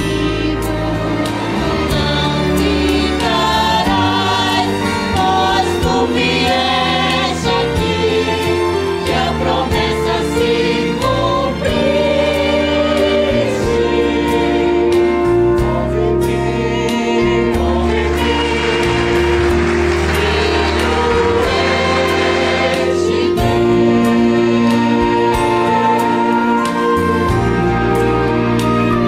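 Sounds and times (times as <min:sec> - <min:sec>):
mixed choir singing: 0:00.0 - 0:29.0.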